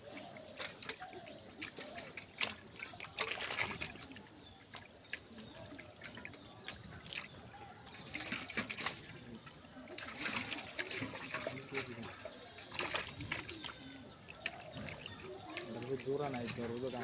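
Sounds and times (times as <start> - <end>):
small water splashes: 0.0 - 17.0
water trickling: 0.0 - 17.0.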